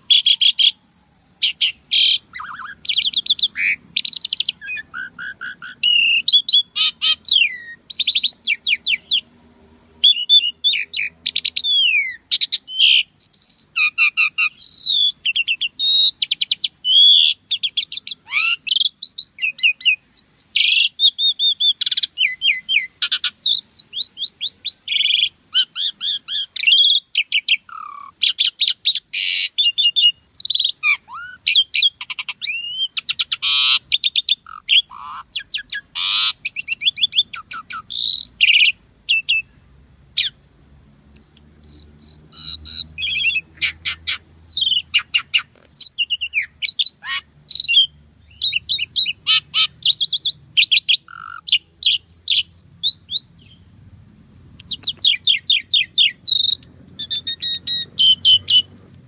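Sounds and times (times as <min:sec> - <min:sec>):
starling singing varied whistles: 0:00.0 - 0:40.4, 0:41.2 - 0:53.7, 0:54.6 - 0:58.8.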